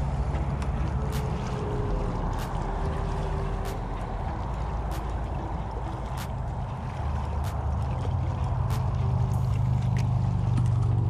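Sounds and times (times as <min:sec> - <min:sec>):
small waves lapping rocks: 0:00.0 - 0:11.0
wind rumble on microphone: 0:00.0 - 0:11.0.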